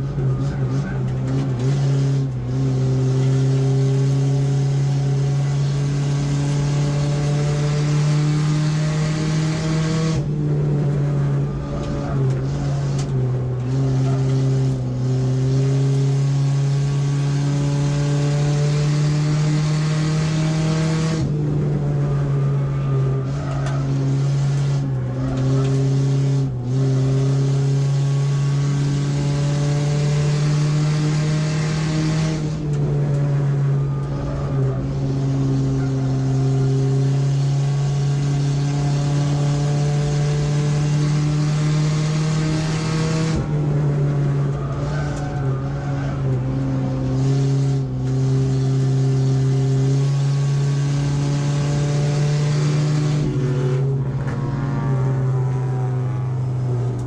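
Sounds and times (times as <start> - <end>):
race car engine under load: 0.0 - 57.0.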